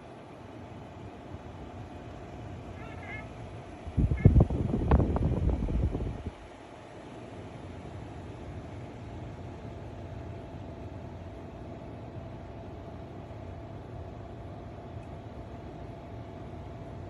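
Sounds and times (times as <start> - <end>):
faint motor whine: 0.0 - 17.0
fan air rushing: 0.0 - 17.0.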